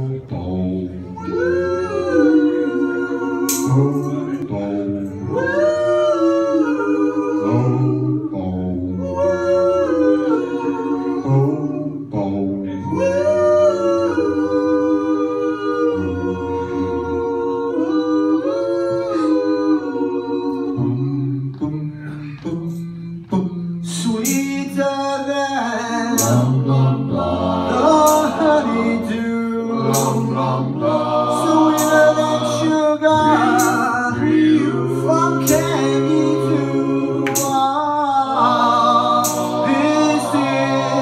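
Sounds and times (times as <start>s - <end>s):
bass voice singing low notes: 0.0s - 41.0s
male vocal group singing a cappella: 0.0s - 41.0s.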